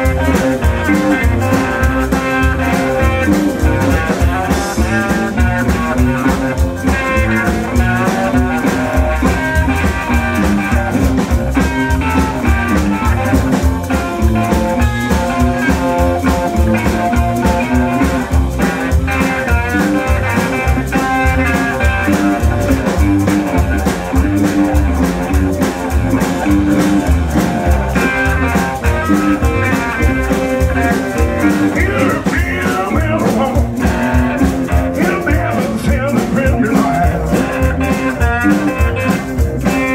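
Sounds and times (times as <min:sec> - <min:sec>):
electric guitars: 0:00.0 - 0:39.9
steady drum beat: 0:00.0 - 0:39.9
upright bass: 0:00.0 - 0:39.9.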